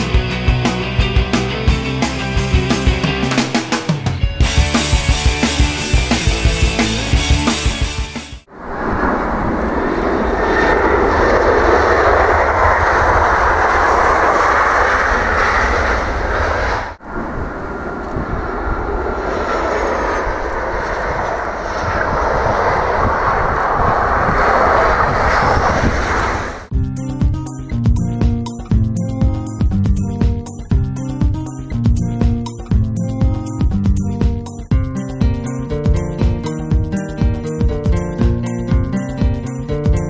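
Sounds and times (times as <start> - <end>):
jet engines rumbling: 1.5 - 40.0.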